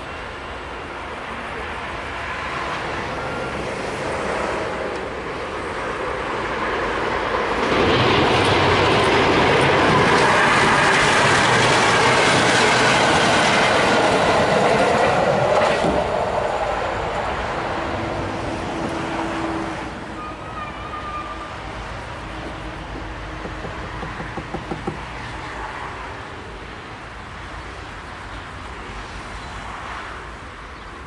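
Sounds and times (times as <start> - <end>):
passenger train rumbling past: 0.0 - 30.6.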